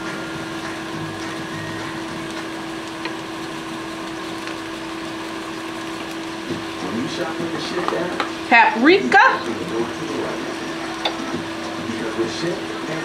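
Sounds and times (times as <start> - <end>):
meat sizzling in skillets: 0.0 - 13.0.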